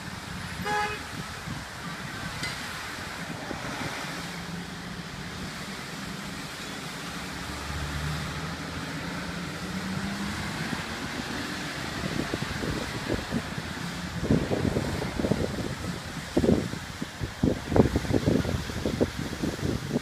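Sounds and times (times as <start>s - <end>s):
vehicle engine humming: 0.0s - 19.9s
passing road traffic: 0.0s - 20.0s
water jetting from hydrant: 0.0s - 20.0s.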